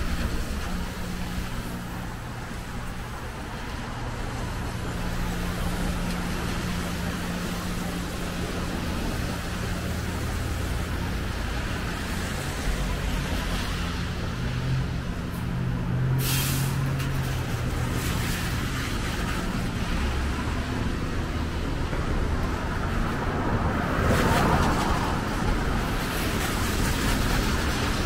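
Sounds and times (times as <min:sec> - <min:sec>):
tyres hissing on wet pavement: 0:00.0 - 0:28.0.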